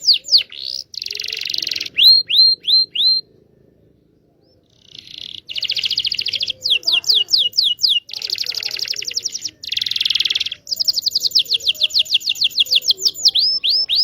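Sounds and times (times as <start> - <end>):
canary trilling: 0.0 - 3.5, 4.4 - 14.0.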